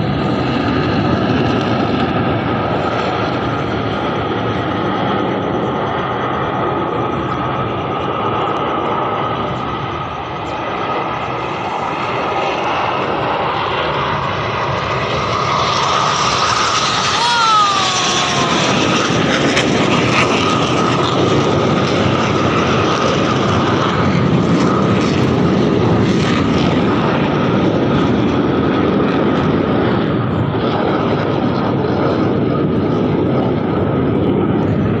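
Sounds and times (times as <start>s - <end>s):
high engine whine: 0.0s - 35.0s
jet engines roaring: 0.0s - 35.0s.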